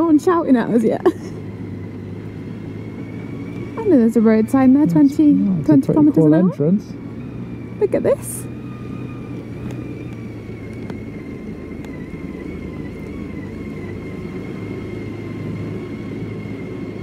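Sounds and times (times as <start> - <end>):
motorcycle engine rumbling: 0.0 - 17.0
thin engine whine: 0.0 - 17.0.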